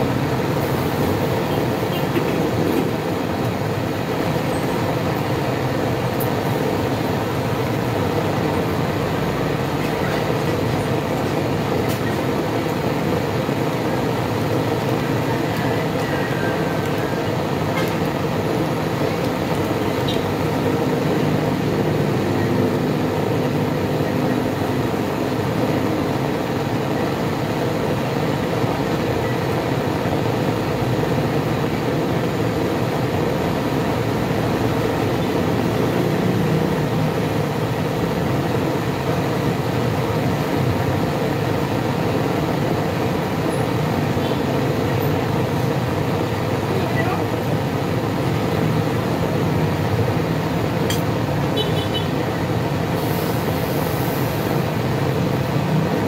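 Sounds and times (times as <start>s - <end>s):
steady machine roar: 0.0s - 56.0s.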